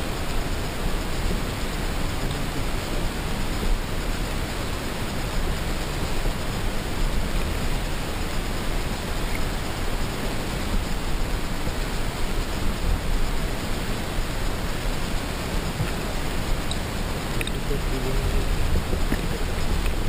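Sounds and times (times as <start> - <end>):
underwater river rushing: 0.0 - 20.0.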